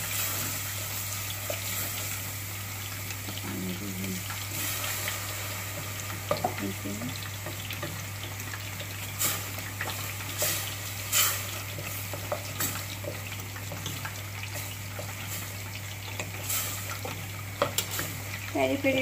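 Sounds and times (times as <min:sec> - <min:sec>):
soft sizzling: 0:00.0 - 0:19.0.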